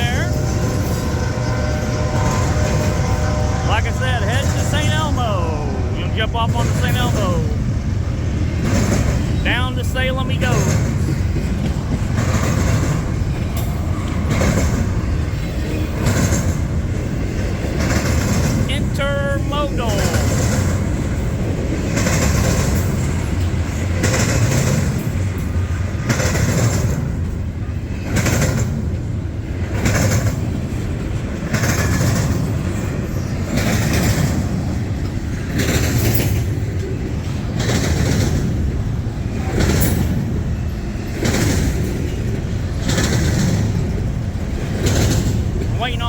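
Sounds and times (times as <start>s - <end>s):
rhythmic clatter of train cars: 0.0s - 46.0s
train wheels rumbling on rail: 0.0s - 46.0s.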